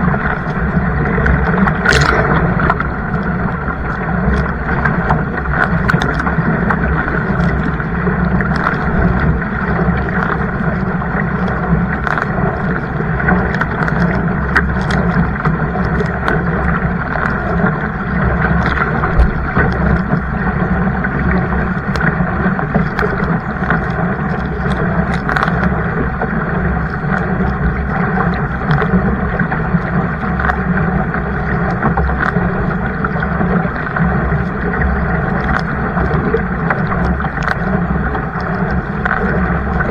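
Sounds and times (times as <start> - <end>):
small clicks or splashes: 0.0 - 39.9
water rushing: 0.0 - 39.9
wind noise on microphone: 0.0 - 39.9.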